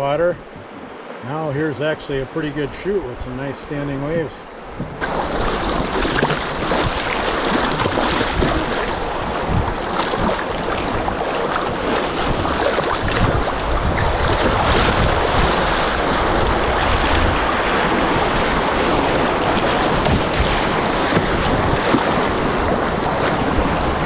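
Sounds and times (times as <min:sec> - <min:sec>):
wind on microphone: 0:02.4 - 0:24.0
river rapids rushing: 0:04.5 - 0:24.0.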